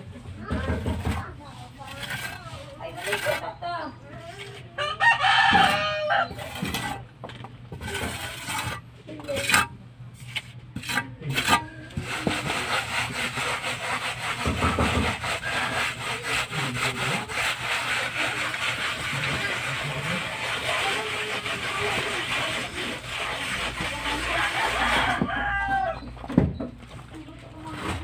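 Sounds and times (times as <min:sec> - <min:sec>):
hand tool scraping cement wall: 0:00.0 - 0:07.1, 0:07.7 - 0:25.9.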